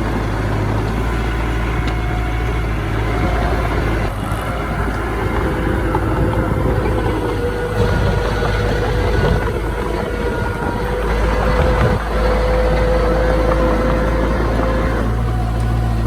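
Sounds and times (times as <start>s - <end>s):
heavy diesel engine running: 0.0s - 16.0s
thin steady whine: 0.0s - 16.0s.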